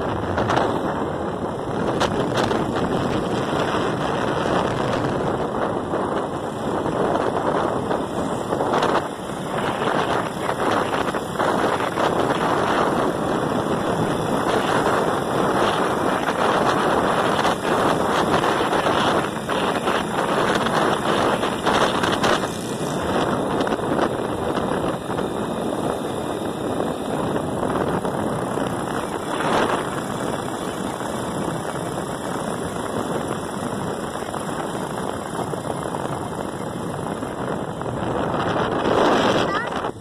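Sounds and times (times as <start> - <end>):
motorcycle engine running: 0.0 - 40.0
wind rushing over microphone: 0.0 - 40.0.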